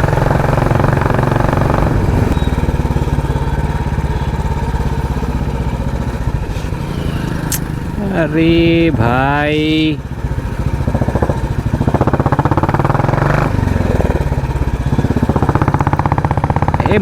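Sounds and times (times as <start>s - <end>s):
motorcycle engine thumping: 0.0s - 17.0s.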